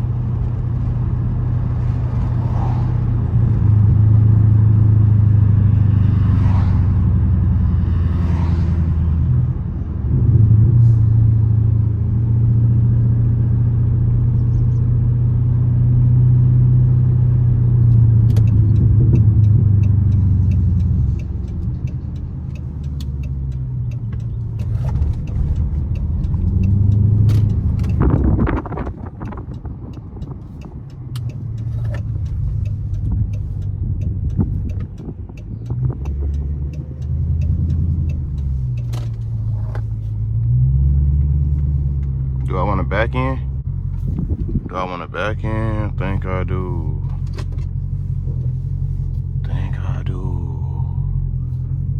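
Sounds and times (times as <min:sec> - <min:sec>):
car exhaust droning: 0:00.0 - 0:51.9.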